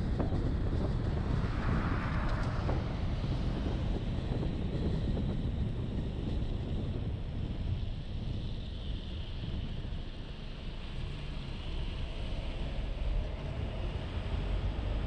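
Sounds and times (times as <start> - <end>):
engine and tyre rumble: 0.0 - 15.0.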